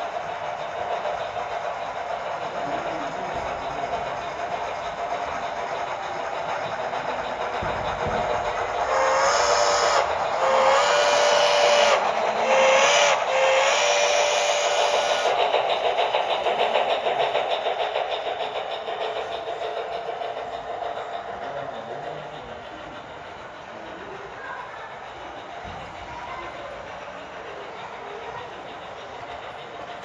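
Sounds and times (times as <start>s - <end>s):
locomotive running sound: 0.0s - 30.0s
rhythmic chuffing: 0.0s - 30.0s.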